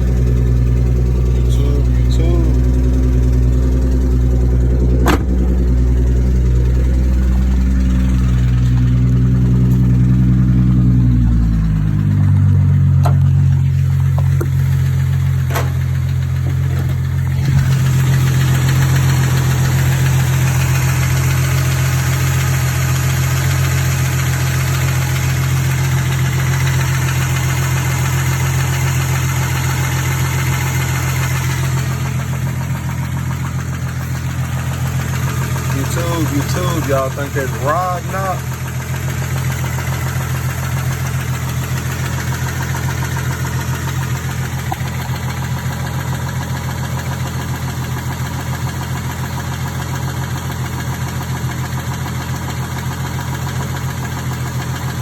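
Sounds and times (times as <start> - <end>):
car engine running with knock: 0.0 - 55.0.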